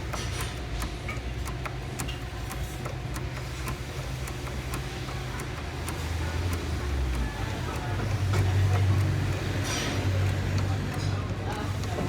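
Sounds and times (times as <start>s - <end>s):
hand fuel pump clicking: 0.0s - 12.0s.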